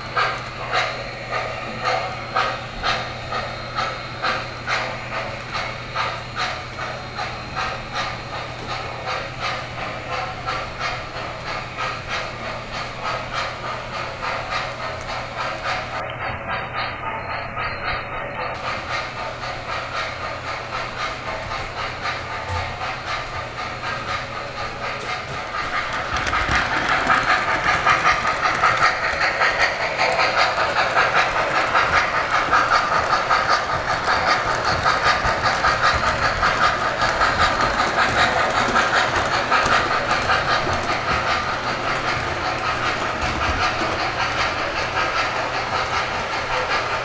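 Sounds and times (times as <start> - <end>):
model steam locomotive chuffing: 0.0 - 47.0.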